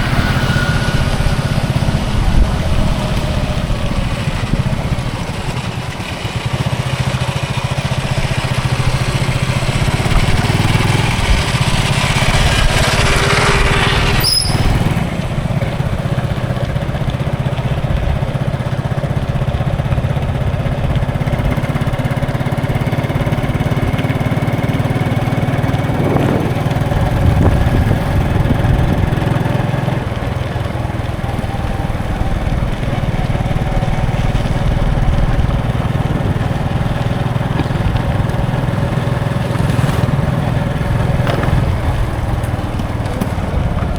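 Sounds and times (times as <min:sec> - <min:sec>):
vehicle passing: 0:00.0 - 0:18.4, 0:19.6 - 0:43.9
road traffic hum: 0:00.0 - 0:43.9.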